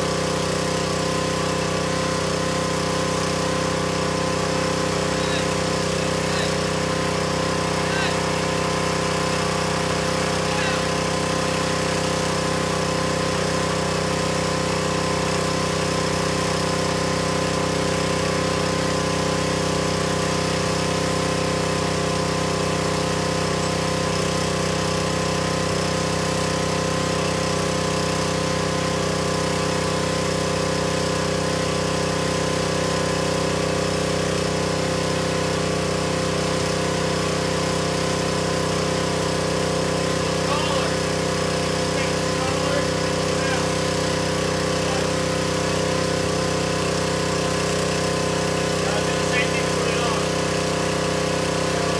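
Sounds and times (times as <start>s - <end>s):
pressure washer running: 0.0s - 51.9s.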